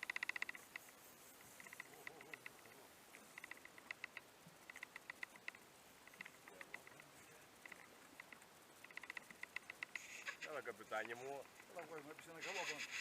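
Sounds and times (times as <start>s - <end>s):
faint sharp clicks: 0.0s - 13.0s.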